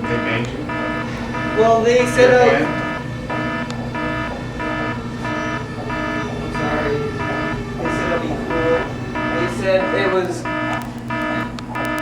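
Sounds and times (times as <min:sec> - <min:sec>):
fire alarm horn buzzing: 0:00.0 - 0:12.0.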